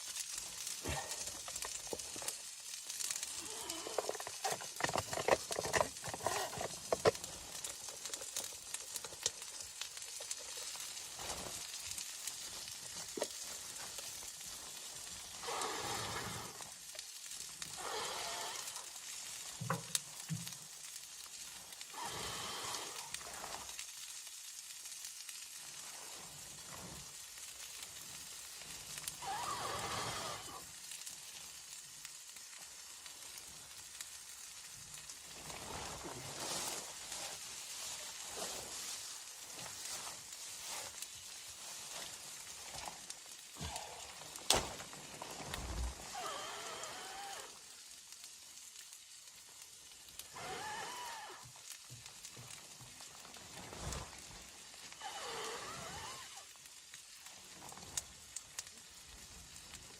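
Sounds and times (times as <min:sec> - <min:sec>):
sizzling hiss with crackles: 0:00.0 - 0:59.9.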